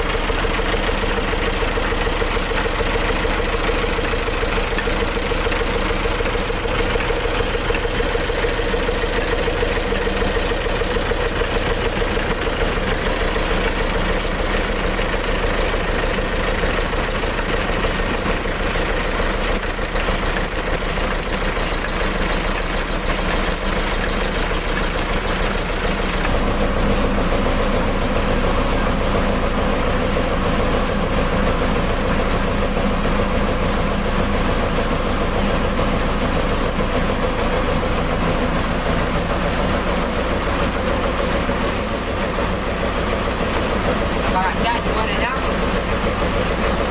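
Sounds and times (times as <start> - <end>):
diesel engine running: 0.0 - 46.9
rice mill machinery noise: 0.0 - 46.9.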